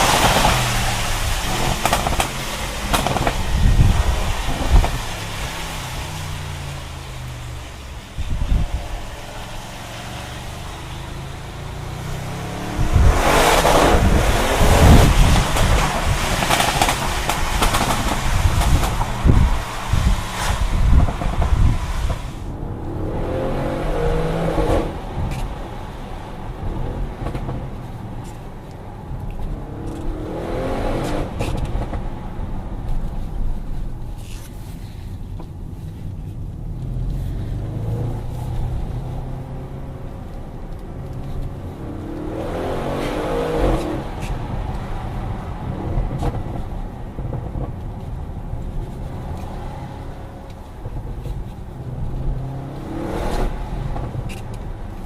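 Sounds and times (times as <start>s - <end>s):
car engine revving: 0.0s - 34.4s, 36.3s - 55.0s.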